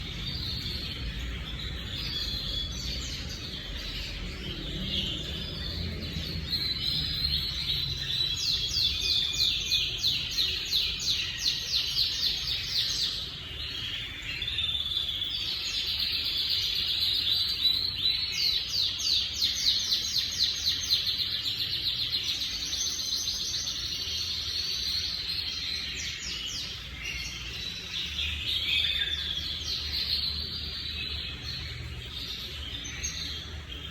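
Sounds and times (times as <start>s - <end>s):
canaries singing trills: 0.0s - 33.9s.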